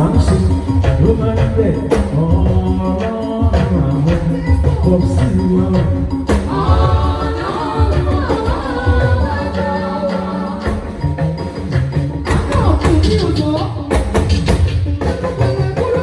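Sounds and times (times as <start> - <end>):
drum hits: 0.0 - 9.7, 10.6 - 16.0.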